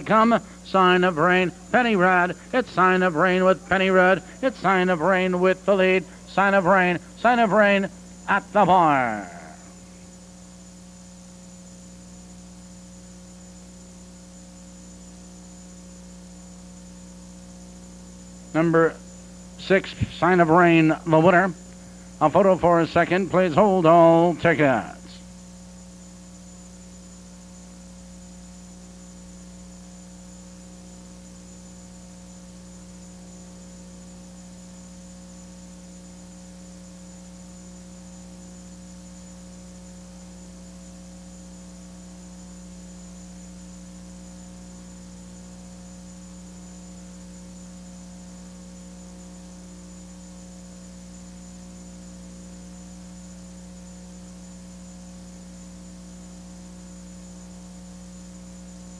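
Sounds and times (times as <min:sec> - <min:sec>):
electrical hum: 0:00.0 - 0:58.9.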